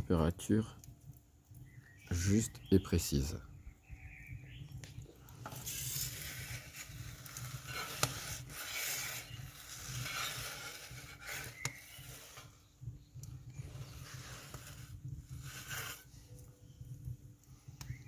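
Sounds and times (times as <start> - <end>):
fire crackling pops: 0.0 - 18.0
fire hissing: 0.2 - 18.0.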